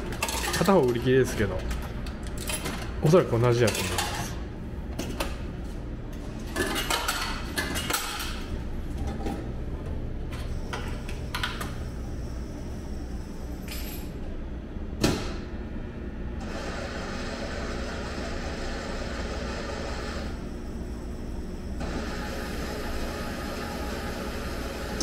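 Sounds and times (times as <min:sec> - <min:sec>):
vending machine hum: 0:00.0 - 0:25.0.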